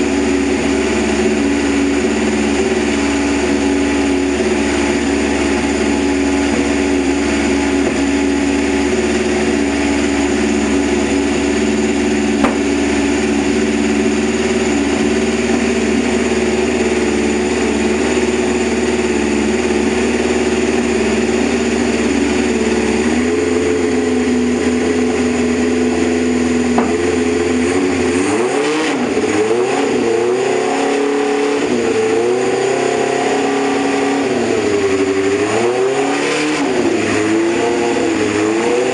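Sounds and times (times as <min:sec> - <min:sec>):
engine idling and revving: 0:00.0 - 0:38.9.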